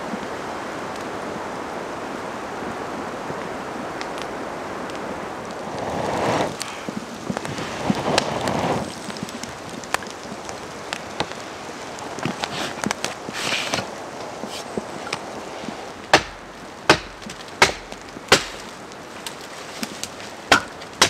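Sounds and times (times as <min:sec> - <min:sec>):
wind hiss: 0:00.0 - 0:21.0.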